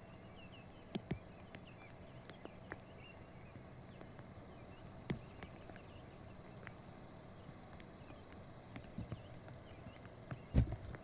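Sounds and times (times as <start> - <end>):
low steady hum: 0.0 - 11.0
faint clicks and knocks: 0.8 - 6.8, 7.6 - 11.0.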